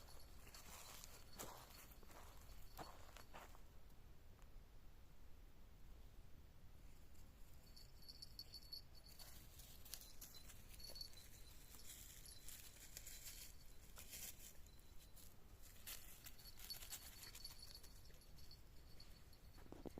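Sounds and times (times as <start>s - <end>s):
faint irregular rustling: 0.0s - 3.7s, 6.8s - 19.9s.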